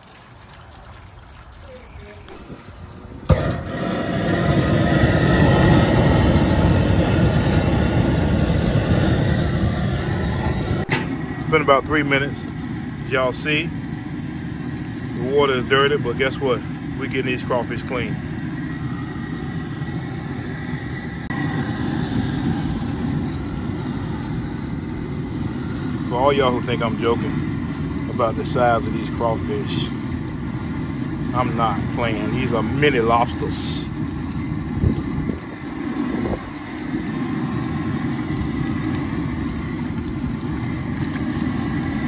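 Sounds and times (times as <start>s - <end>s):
water churning in washer: 0.0s - 42.0s.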